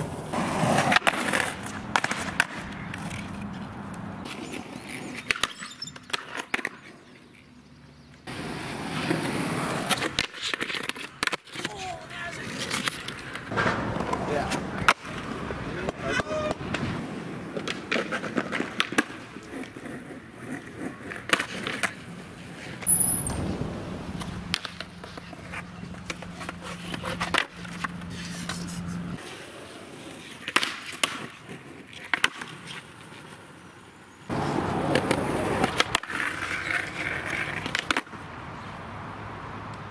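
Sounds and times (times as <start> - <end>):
skateboard popping and landing: 0.0 - 7.0, 8.3 - 28.5, 29.2 - 33.4, 34.3 - 38.2
skateboard trucks grinding on concrete: 0.0 - 7.6, 8.2 - 38.7
skateboard wheels rolling on concrete: 0.0 - 39.9.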